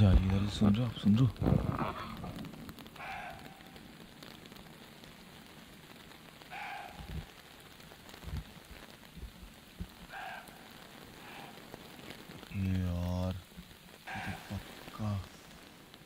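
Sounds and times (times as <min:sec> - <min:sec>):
rain pattering on tent fabric: 0:00.0 - 0:16.0.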